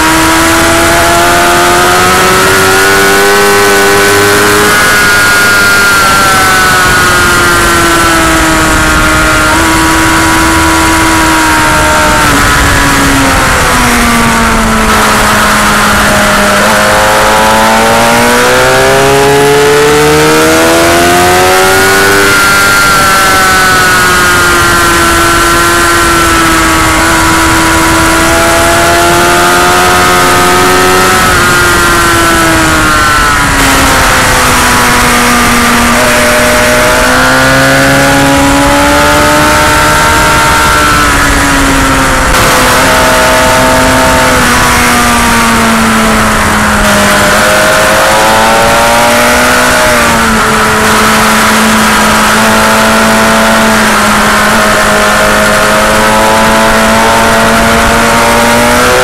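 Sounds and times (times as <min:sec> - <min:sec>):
loud constant rushing noise: 0:00.0 - 0:59.0
motorcycle engine revving: 0:00.0 - 0:59.0.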